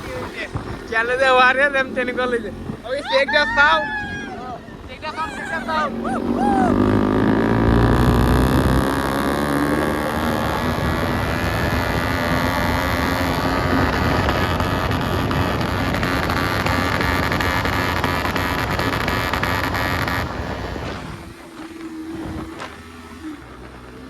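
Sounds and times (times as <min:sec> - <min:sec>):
motorcycle exhaust drone: 0:00.0 - 0:24.0.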